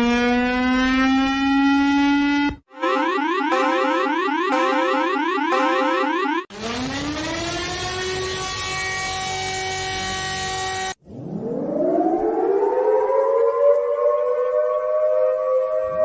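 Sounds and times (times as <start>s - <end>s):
civil defense siren wailing: 0.0s - 16.0s.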